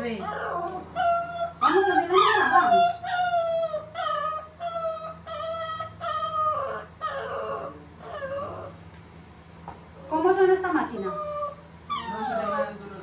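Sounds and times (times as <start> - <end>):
puppy whining: 0.0 - 8.9, 10.8 - 13.0.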